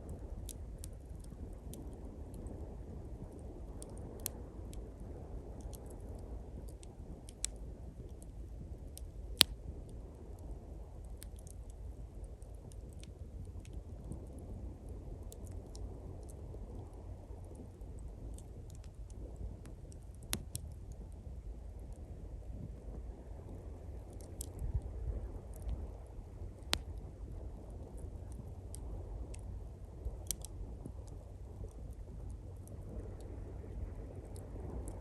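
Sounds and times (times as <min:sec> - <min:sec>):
campfire crackling: 0:00.1 - 0:35.0.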